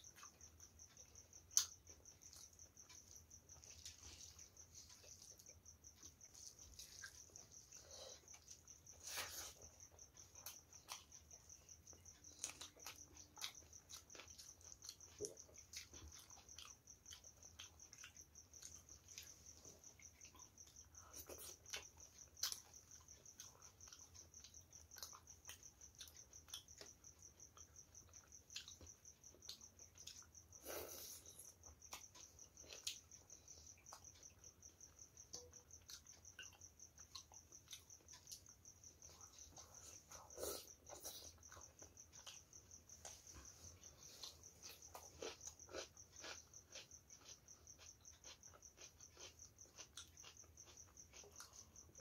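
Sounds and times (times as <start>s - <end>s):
wet chewing and lip smacks: 0.0s - 52.0s.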